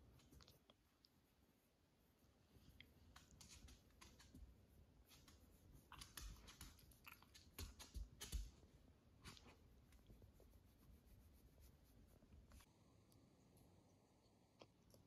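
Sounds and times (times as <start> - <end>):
hand rustling dog fur: 0.0 - 12.7.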